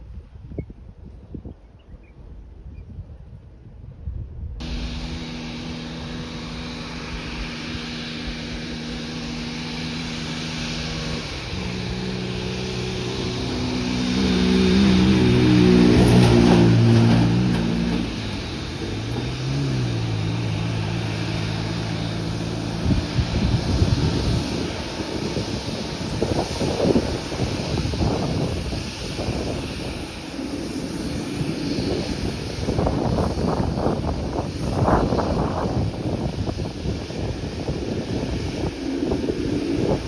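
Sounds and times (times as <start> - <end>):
jet engines taxiing: 4.6 - 40.0.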